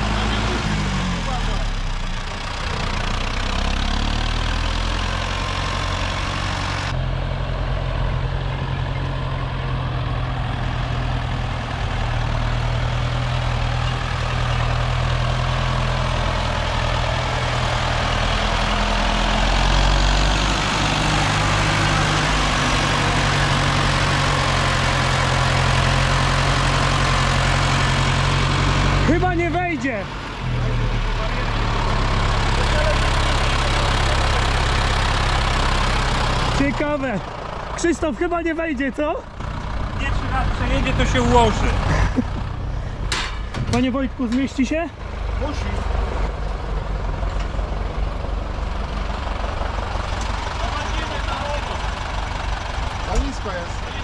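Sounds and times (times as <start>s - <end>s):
diesel engine running at low revs: 0.0s - 54.0s.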